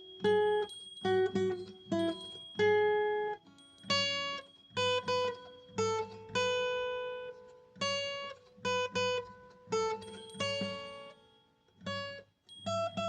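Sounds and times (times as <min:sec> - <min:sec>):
plucked guitar: 0:00.0 - 0:13.0.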